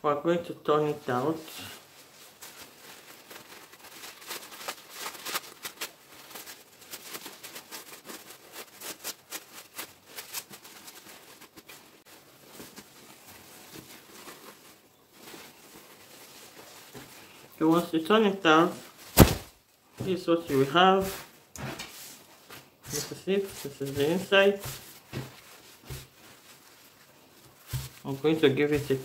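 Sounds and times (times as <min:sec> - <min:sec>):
fabric rustling: 0:01.1 - 0:29.0.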